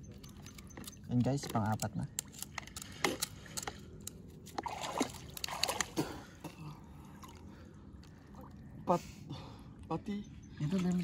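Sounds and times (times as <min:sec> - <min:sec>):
water sloshing and splashing: 0:00.0 - 0:08.9.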